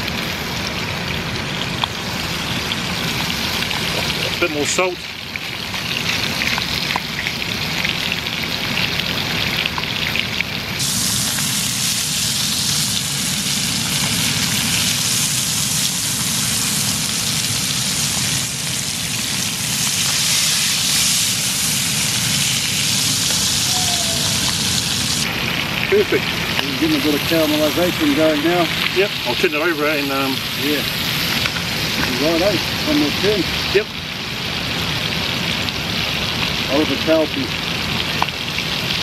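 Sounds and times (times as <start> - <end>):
fish sizzling in a pan: 0.0 - 39.0.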